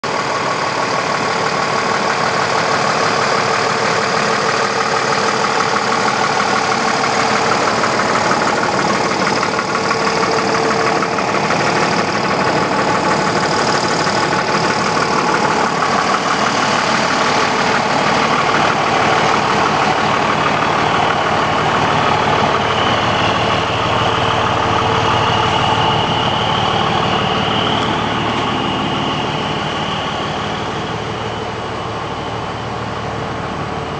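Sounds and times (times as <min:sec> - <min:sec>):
fire engine idling: 0:00.0 - 0:33.9
thin high whine: 0:03.8 - 0:33.9.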